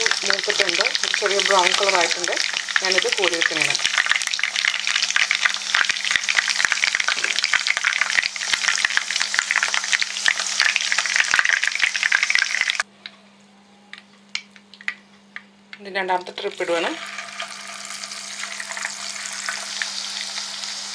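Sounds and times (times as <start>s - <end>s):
chicken deep-frying in oil: 0.0s - 12.9s, 15.9s - 20.9s.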